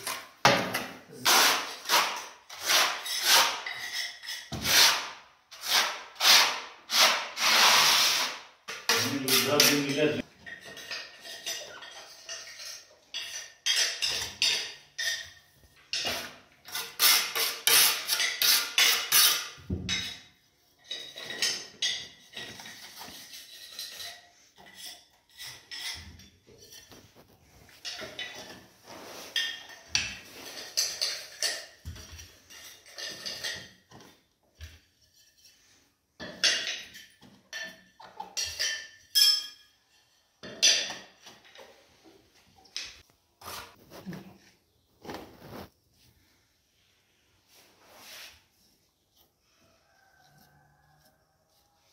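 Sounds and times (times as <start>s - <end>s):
trowel scraping tile and adhesive: 0.0s - 39.2s, 39.8s - 45.8s, 47.4s - 51.9s.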